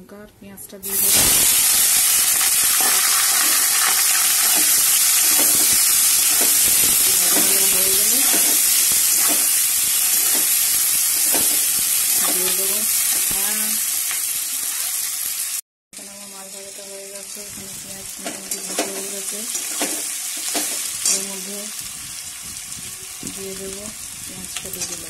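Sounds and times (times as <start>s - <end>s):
onions sizzling in hot oil: 0.8s - 25.0s.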